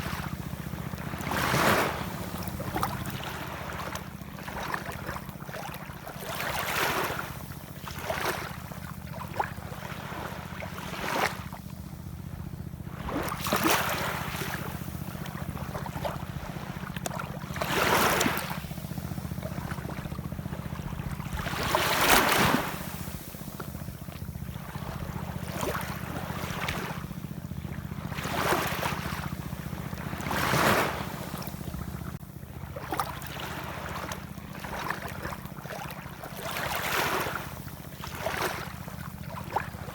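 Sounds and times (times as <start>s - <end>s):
ocean waves breaking: 0.0s - 39.9s
steady low hum: 0.0s - 39.9s.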